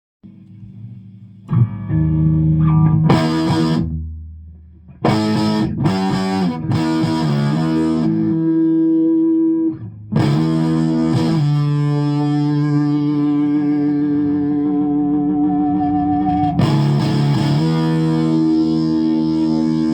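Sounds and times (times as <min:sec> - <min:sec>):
electric guitar with flanging tone: 0:00.2 - 0:19.9.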